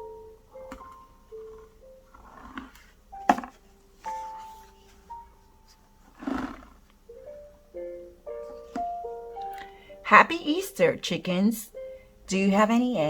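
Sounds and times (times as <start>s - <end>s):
soft mallet-like music: 0.0s - 6.0s, 7.1s - 13.0s.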